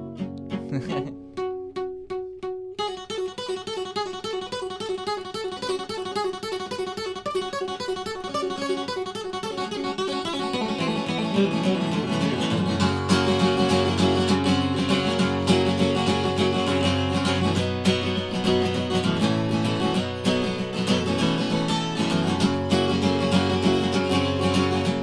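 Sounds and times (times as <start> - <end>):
acoustic guitar picking: 0.0 - 25.0.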